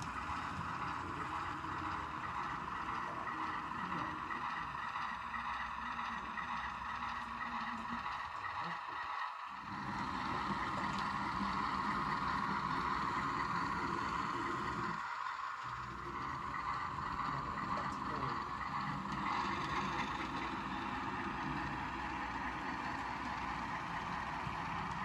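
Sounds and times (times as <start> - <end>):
model locomotive diesel engine drone: 0.0 - 25.0.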